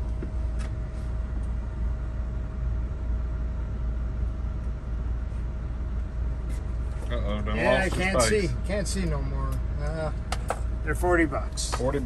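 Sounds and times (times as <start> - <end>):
cooling equipment humming: 0.0 - 12.0
faint steady whine: 0.0 - 12.0.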